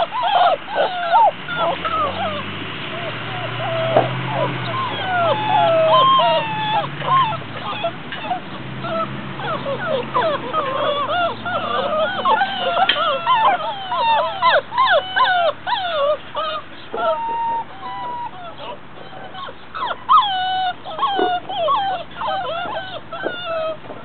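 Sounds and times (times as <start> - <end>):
puppies whining and yelping: 0.0 - 24.0.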